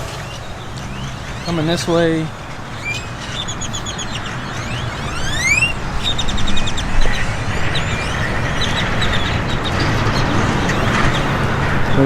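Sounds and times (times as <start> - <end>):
petrol engine running: 0.0 - 12.0
small birds chirping: 0.0 - 12.0.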